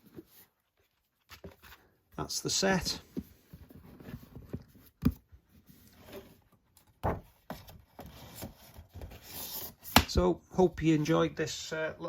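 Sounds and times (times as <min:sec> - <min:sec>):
soft rustling of disc cases: 0:00.0 - 0:11.3.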